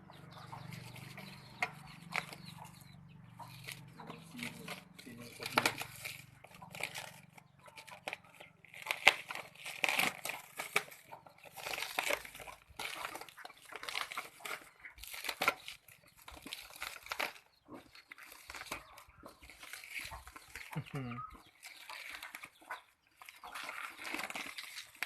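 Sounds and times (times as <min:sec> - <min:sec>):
wrapping crinkling: 0:03.4 - 0:25.0.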